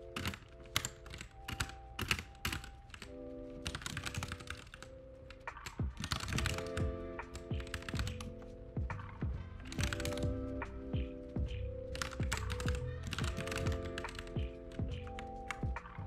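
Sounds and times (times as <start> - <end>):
keyboard keystrokes: 0.0 - 16.0
soft lofi music: 0.0 - 16.0.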